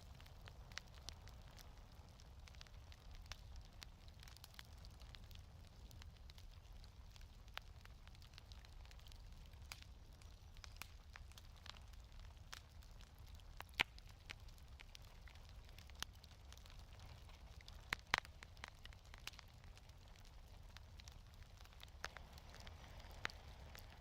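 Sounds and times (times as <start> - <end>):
fire pops: 0.0 - 24.0
wood fire crackling: 0.0 - 24.0.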